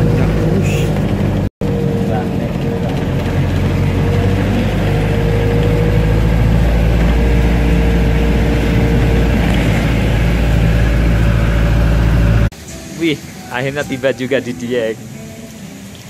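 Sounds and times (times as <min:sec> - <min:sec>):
vehicle engine and road drone: 0:00.0 - 0:13.0.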